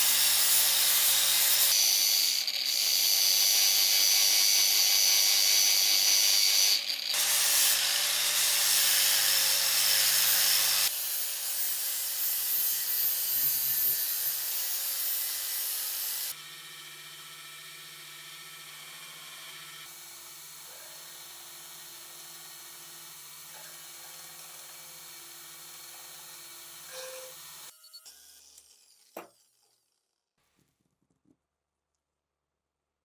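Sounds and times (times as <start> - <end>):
power tool abrading metal: 0.0 - 29.9.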